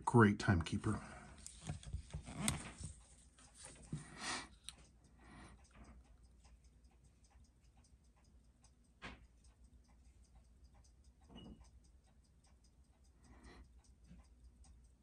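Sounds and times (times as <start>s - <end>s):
watch ticking faintly: 0.0s - 15.0s.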